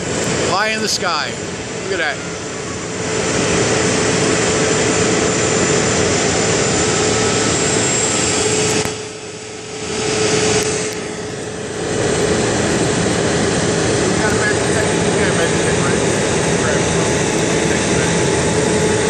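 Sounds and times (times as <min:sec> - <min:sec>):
crane engine whining: 0:00.0 - 0:19.0.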